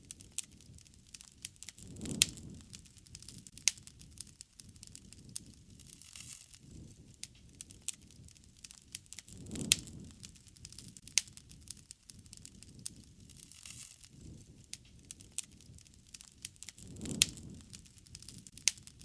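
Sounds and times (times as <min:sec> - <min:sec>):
wood campfire crackling: 0:00.0 - 0:19.0.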